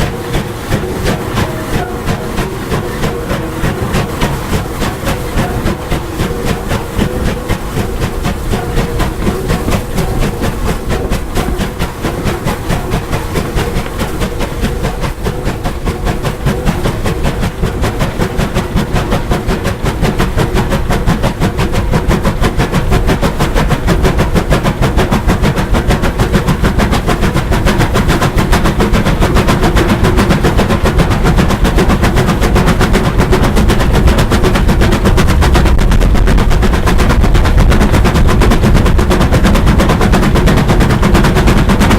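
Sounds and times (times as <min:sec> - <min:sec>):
steam locomotive exhaust beats: 0:00.0 - 0:41.9.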